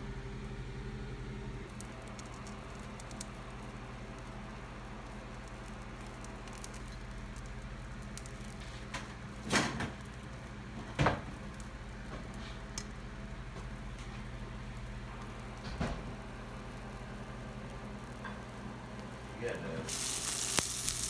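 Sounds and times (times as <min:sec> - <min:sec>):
omelet sizzling in a pan: 0:01.6 - 0:21.0.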